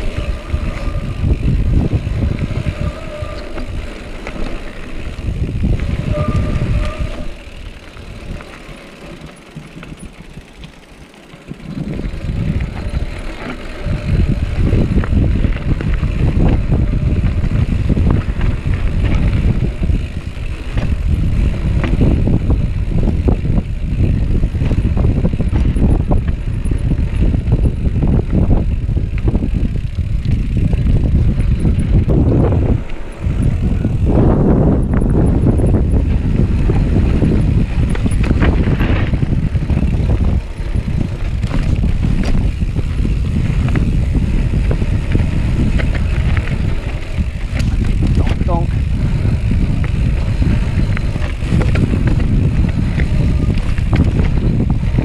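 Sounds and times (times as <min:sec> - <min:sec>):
bike rattling and knocking: 0:00.0 - 0:55.0
wind buffeting microphone: 0:00.0 - 0:55.0.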